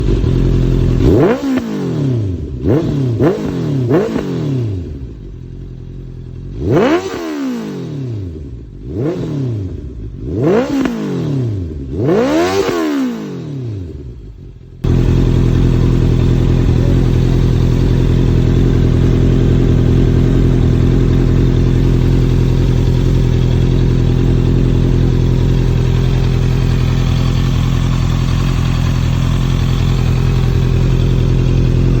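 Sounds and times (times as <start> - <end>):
motorcycle engine idling: 0.0 - 7.0, 7.6 - 12.6, 13.3 - 32.0
motorcycle engine revving: 0.0 - 32.0.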